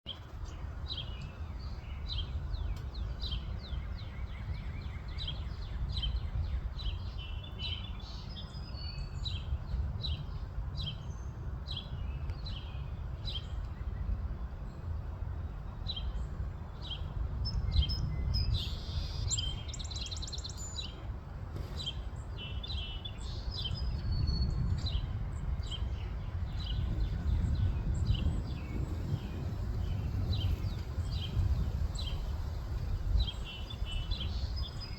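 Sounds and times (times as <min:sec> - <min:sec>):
steady low rumble: 0:00.5 - 0:34.9.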